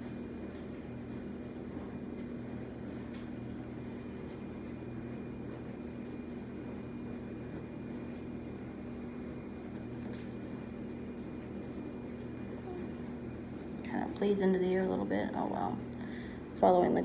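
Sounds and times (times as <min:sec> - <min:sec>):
electrical hum with high whine: 0:00.0 - 0:17.0.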